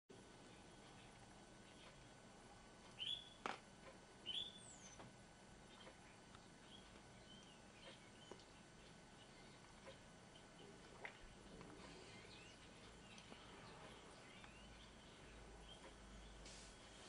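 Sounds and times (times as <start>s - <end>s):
songbird chirping: 0.4s - 3.4s, 4.1s - 16.5s.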